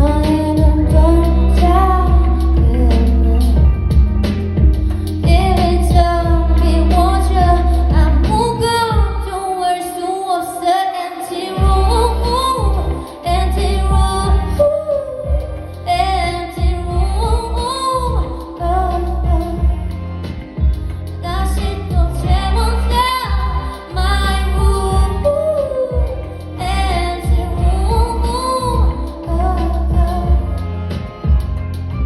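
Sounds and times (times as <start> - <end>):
instrumental backing with bass: 0.0 - 9.5, 11.6 - 32.0
woman singing: 0.0 - 31.6.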